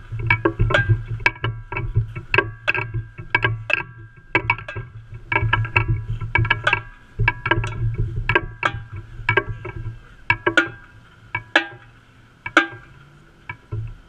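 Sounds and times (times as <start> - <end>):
tenor drums struck: 0.0 - 14.0.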